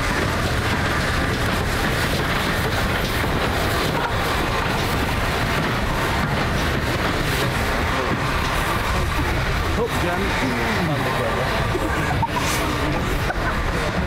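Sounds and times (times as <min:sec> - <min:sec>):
steam locomotive wheels rumbling: 0:00.0 - 0:14.0.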